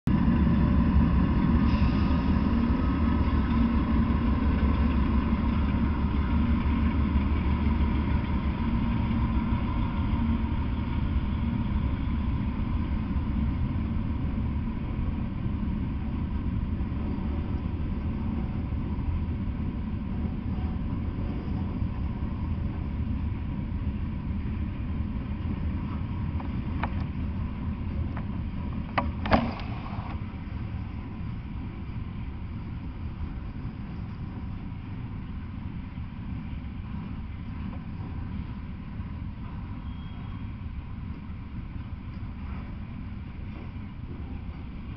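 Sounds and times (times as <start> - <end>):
diesel locomotive engine rumble: 0.0 - 44.9
freight cars rolling on rails: 0.1 - 44.9.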